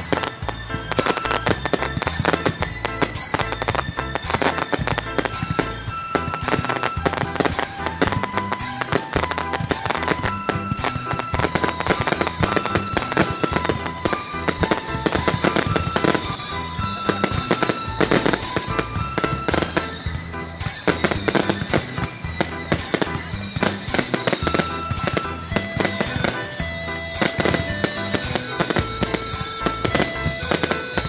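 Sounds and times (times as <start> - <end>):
fireworks bursting: 0.0 - 31.0
music playing: 0.0 - 31.0.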